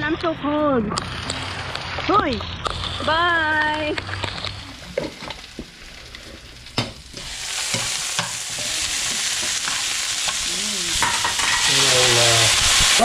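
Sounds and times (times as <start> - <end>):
food sizzling in a frying pan: 0.9 - 13.0.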